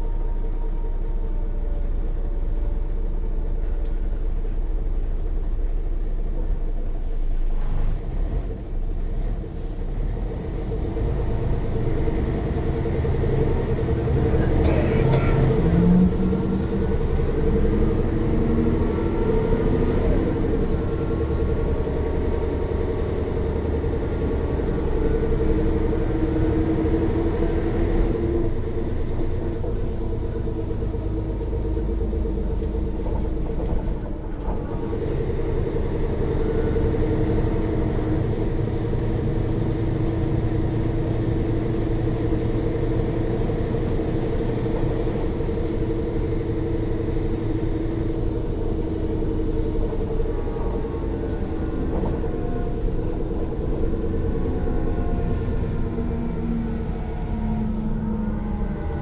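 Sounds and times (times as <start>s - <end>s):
bus diesel engine droning: 0.0s - 59.0s
rear axle whine: 10.4s - 59.0s.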